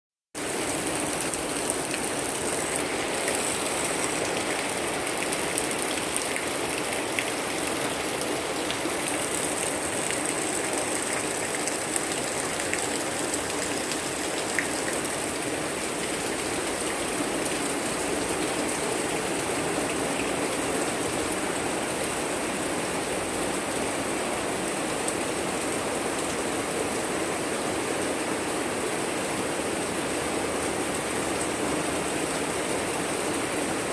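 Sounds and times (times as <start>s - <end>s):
steady rain falling: 0.4s - 33.9s.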